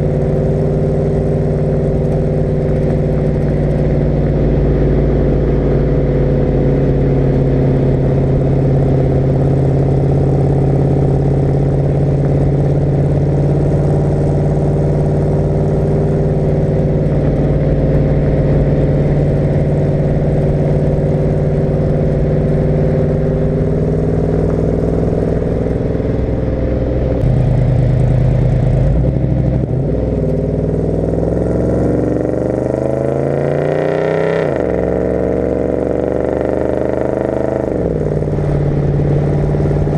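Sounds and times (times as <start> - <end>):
truck engine exhaust cruising: 0.0 - 39.9.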